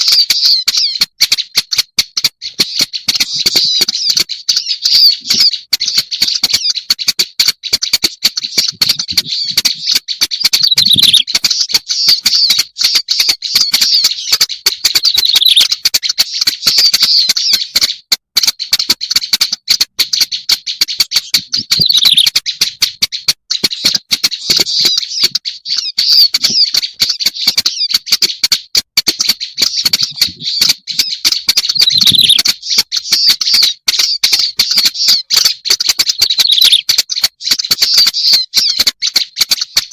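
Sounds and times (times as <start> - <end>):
reed warbler song: 0.0 - 28.6, 29.2 - 39.7.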